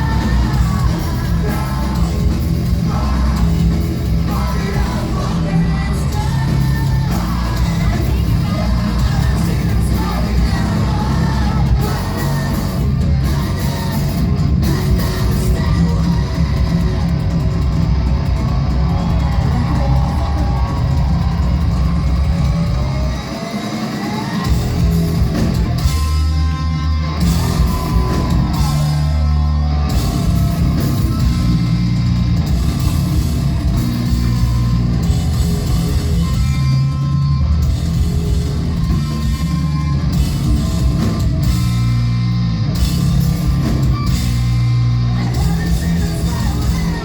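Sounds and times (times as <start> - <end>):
bass guitar: 0.0 - 47.0
distorted electric guitars: 0.0 - 47.0
drums: 0.0 - 47.0.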